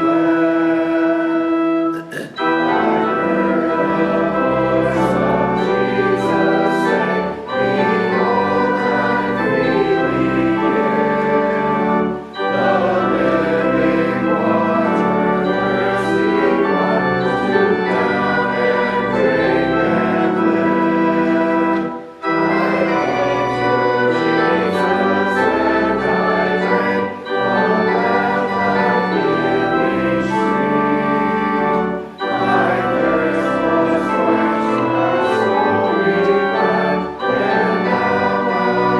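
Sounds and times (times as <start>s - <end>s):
church organ chords: 0.0s - 38.9s
congregation singing: 0.0s - 38.9s.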